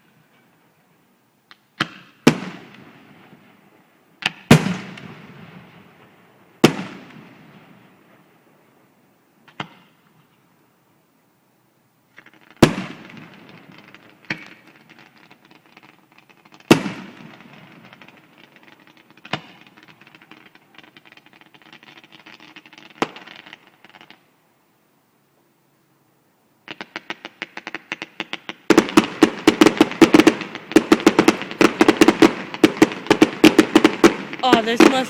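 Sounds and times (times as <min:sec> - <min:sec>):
fireworks crackle: 0:00.0 - 0:10.9, 0:12.0 - 0:24.4, 0:26.6 - 0:35.0
fireworks bangs: 0:01.6 - 0:10.5, 0:12.1 - 0:24.3, 0:26.6 - 0:35.0.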